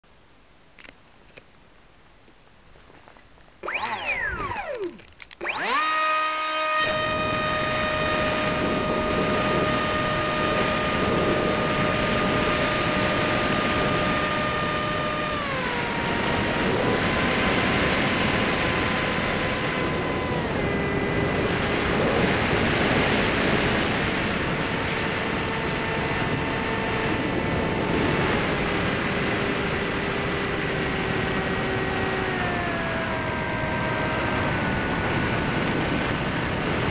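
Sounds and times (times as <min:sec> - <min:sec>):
model plane motor whining: 0:03.6 - 0:36.9
wind noise: 0:03.6 - 0:36.9.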